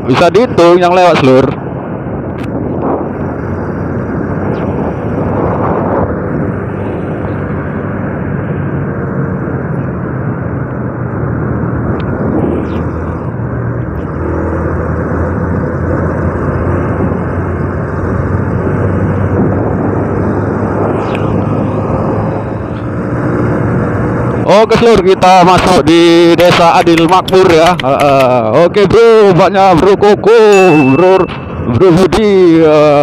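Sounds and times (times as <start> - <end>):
wind rushing on microphone: 0.0 - 33.0.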